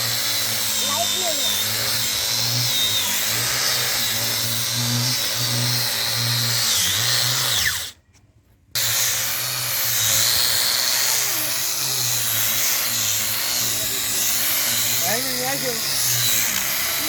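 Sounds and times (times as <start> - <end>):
polishing machine motor whine: 0.0 - 7.9, 8.8 - 17.0.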